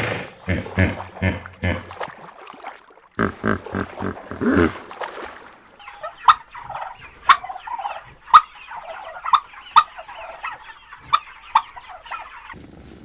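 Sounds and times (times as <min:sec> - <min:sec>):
sharp poultry calls: 0:00.0 - 0:02.0, 0:03.2 - 0:05.0, 0:05.8 - 0:12.6
poultry clucking: 0:00.0 - 0:02.1, 0:03.2 - 0:12.6.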